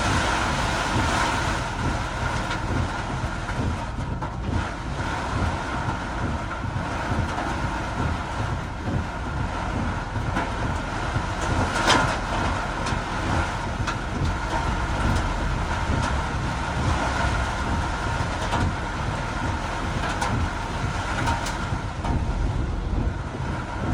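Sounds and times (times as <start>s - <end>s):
heavy rain: 0.0s - 23.9s
tyres rumbling on wet road: 0.0s - 23.9s.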